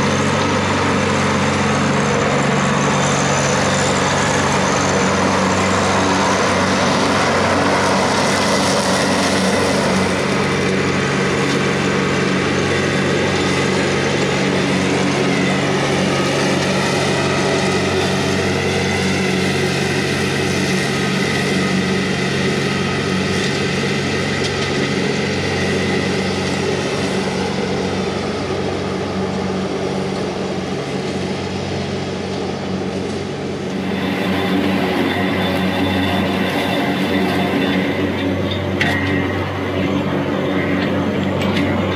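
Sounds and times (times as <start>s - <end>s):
mower cutting grass: 0.0s - 41.9s
tractor diesel engine drone: 0.0s - 41.9s.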